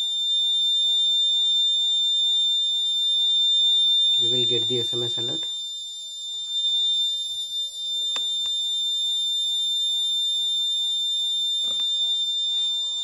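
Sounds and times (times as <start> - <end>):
high-pitched alarm buzzer: 0.0 - 13.0.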